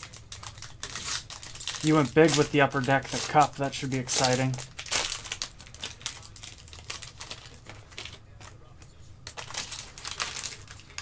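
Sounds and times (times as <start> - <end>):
foil card pack crinkling: 0.0 - 11.0.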